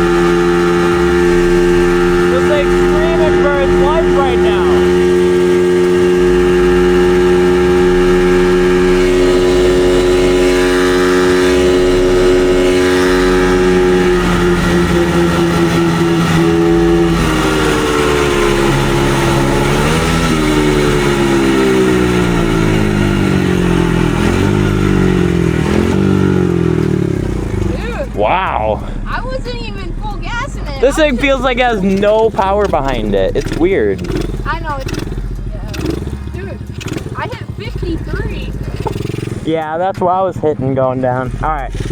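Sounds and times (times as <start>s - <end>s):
low rumble of wind: 0.0s - 39.6s
dirt bike engine revving: 0.0s - 41.9s.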